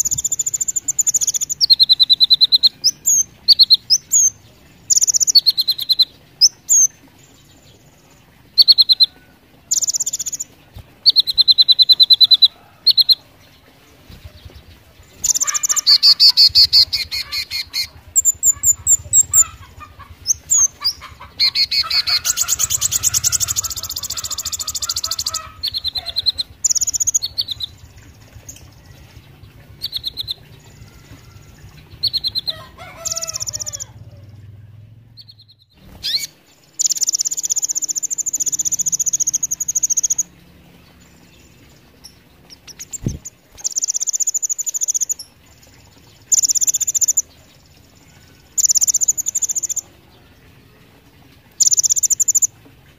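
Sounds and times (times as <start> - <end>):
bird rapid trills: 0.0 - 34.5, 35.1 - 52.9
sunbird chirping: 0.0 - 50.8, 51.5 - 52.6.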